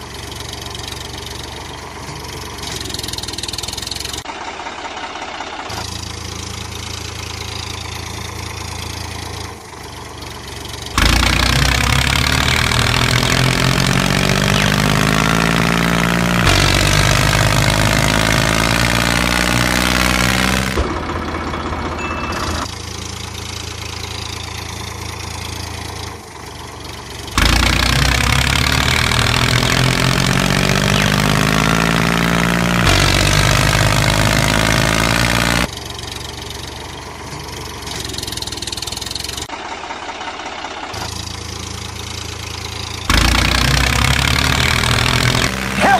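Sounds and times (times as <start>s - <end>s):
tractor engine idling and revving: 0.0s - 45.9s.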